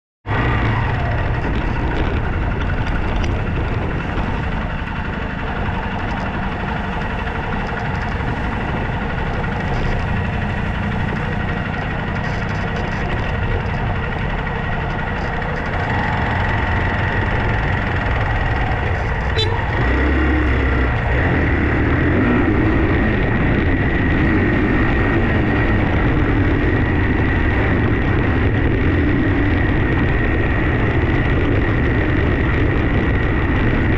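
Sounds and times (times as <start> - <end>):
vehicle engine running: 0.2 - 33.9.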